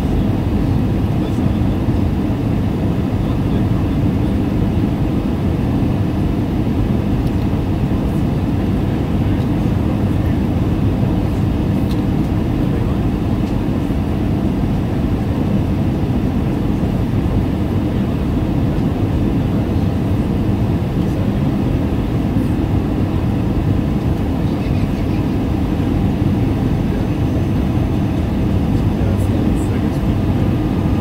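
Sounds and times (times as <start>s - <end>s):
airliner cabin rumble: 0.0s - 31.0s.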